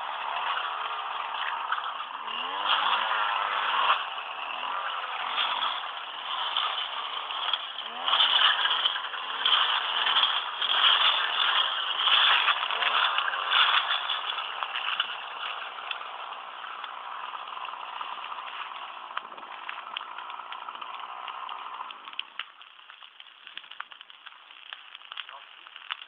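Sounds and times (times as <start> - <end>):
brush fire rushing and crackling: 0.0 - 26.0.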